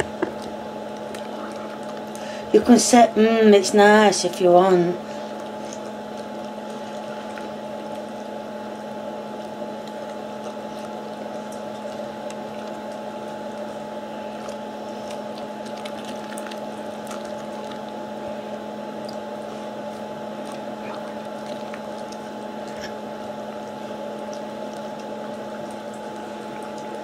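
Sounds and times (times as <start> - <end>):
electrical hum: 0.0 - 27.0
dog licking and chewing: 5.4 - 27.0.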